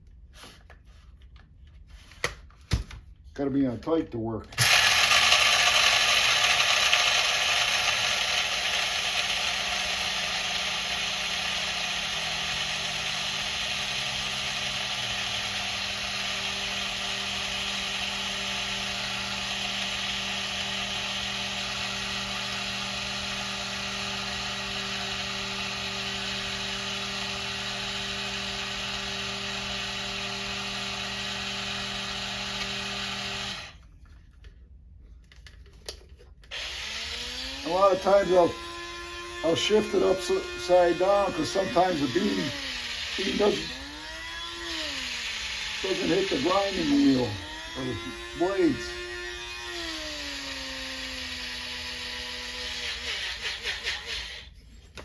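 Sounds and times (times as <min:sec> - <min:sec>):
coffee grinder grinding beans: 0:04.6 - 0:33.9, 0:35.4 - 0:55.0.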